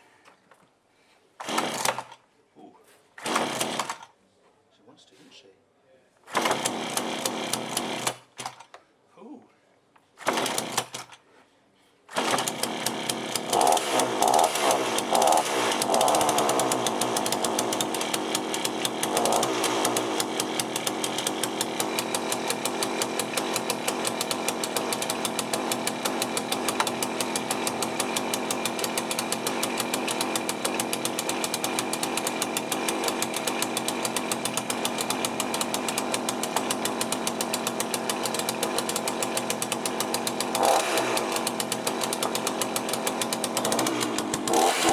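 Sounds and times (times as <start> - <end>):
chainsaw engine starting and running: 1.4 - 2.2, 3.2 - 4.1, 6.3 - 8.7, 10.2 - 11.2, 12.1 - 44.9.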